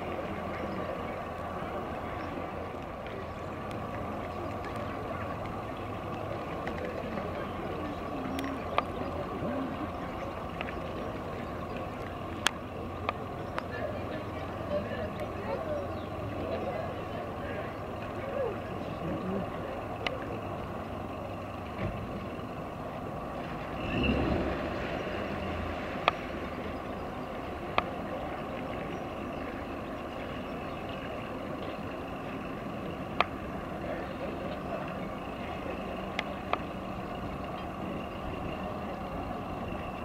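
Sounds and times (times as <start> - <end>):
outboard motor running: 0.0 - 40.0.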